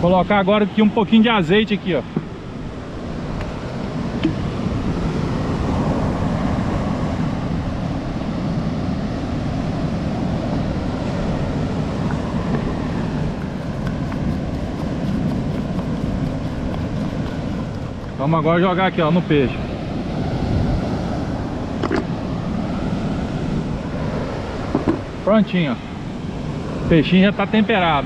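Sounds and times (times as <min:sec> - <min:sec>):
sea surf rushing: 0:00.0 - 0:28.0
wind buffeting microphone: 0:02.0 - 0:25.3.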